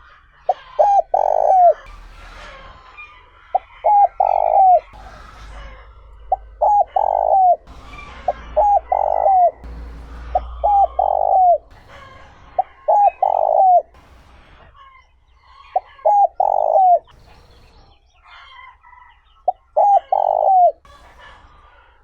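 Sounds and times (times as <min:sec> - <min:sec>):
dove cooing: 0:00.0 - 0:02.0, 0:03.4 - 0:14.0, 0:14.6 - 0:17.2, 0:18.2 - 0:20.9.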